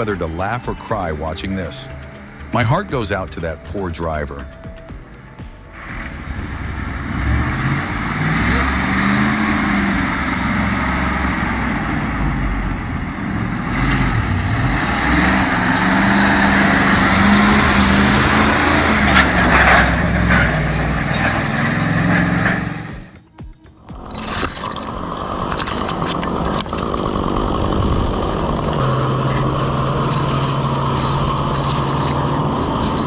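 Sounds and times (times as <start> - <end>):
heavy truck engine under load: 0.0 - 23.1, 24.1 - 33.0.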